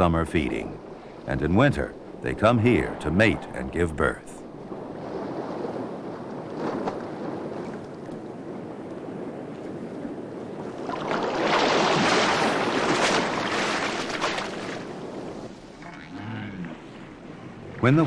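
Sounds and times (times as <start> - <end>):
sea water washing and rushing: 0.0 - 18.0.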